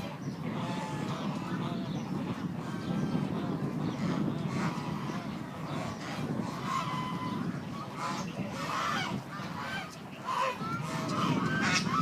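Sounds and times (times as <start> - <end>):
waterfowl honking: 0.0 - 12.0.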